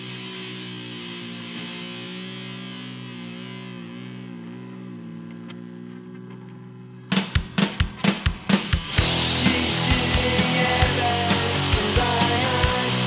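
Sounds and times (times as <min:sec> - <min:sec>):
electric guitar chord ringing: 0:00.0 - 0:08.2, 0:08.8 - 0:13.0.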